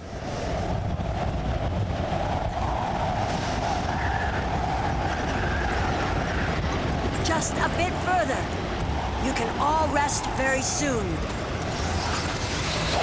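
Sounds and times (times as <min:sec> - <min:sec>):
storm wind blowing hard: 0:00.0 - 0:13.0.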